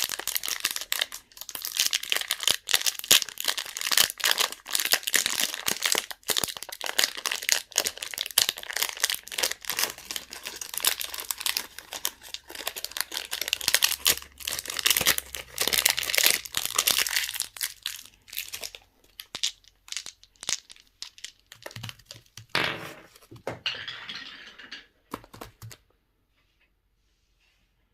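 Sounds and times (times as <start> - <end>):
packaging crinkling and tearing: 0.0 - 22.4.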